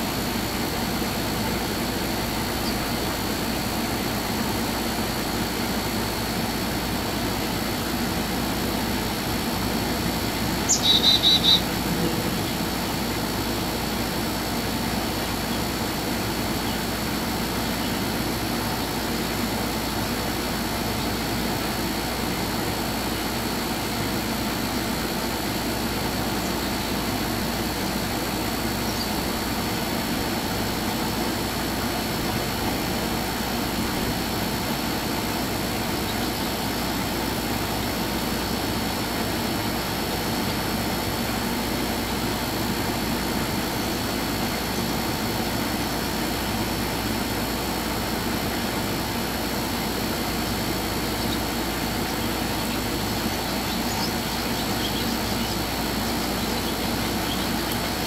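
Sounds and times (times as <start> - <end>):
mechanical drone with high whine: 0.0 - 58.0.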